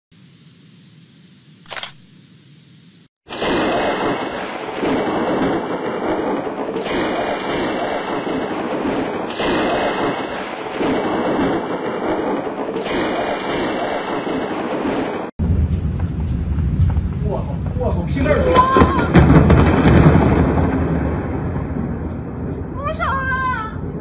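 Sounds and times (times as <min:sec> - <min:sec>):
rain and wind rushing: 0:03.3 - 0:22.8.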